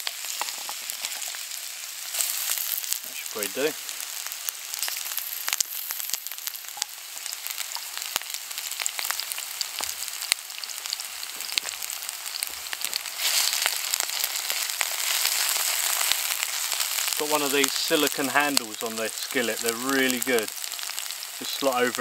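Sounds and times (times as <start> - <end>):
potatoes sizzling in hot oil: 0.0 - 22.0.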